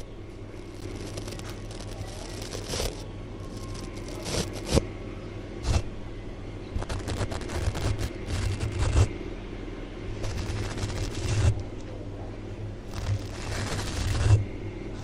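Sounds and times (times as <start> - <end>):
crackly scraping: 0.0 - 4.9, 5.6 - 5.9, 6.7 - 9.2, 10.2 - 15.0
steady low hum: 0.0 - 15.0.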